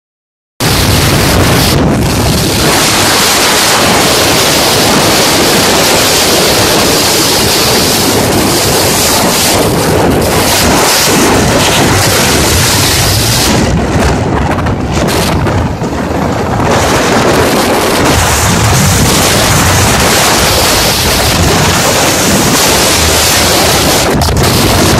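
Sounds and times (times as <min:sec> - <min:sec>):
wind buffeting microphone: 0:00.6 - 0:24.9.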